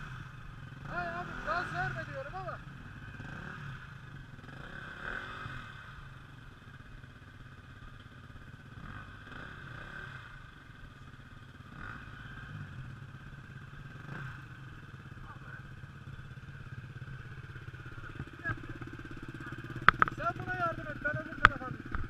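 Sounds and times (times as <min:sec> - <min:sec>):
dirt bike engine revving: 0:00.0 - 0:07.0, 0:08.4 - 0:10.9, 0:11.5 - 0:22.0.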